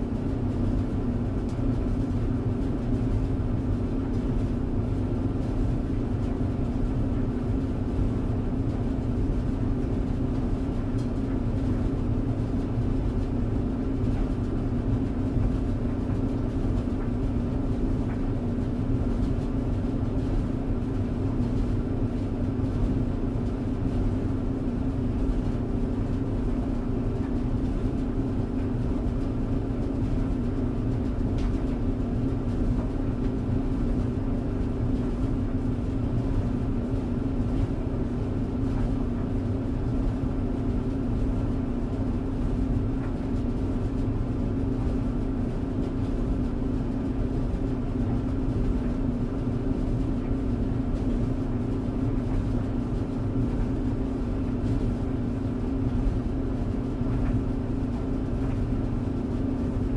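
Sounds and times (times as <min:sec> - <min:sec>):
tumble dryer running: 0:00.0 - 0:59.9.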